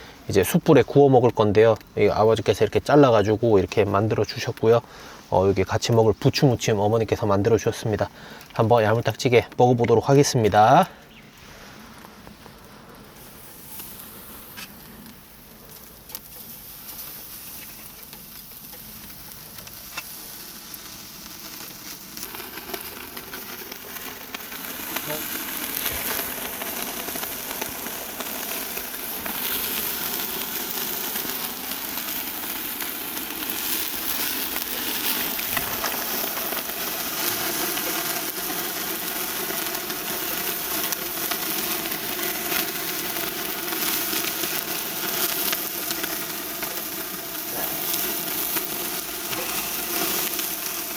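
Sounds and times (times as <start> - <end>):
meat sizzling on charcoal grill: 0.0 - 50.9.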